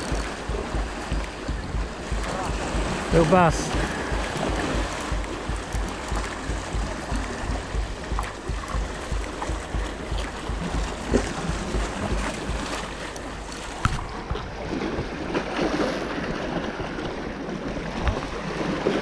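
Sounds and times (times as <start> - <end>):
wind buffeting microphone: 0.0 - 15.8
sea water lapping: 0.0 - 19.0.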